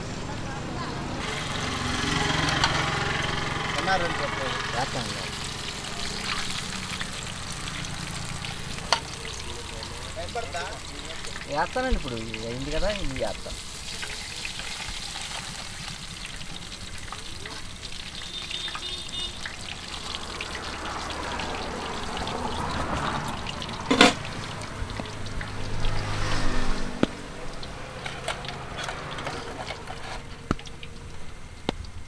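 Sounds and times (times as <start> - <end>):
oil crackling as food fries: 1.2 - 32.0.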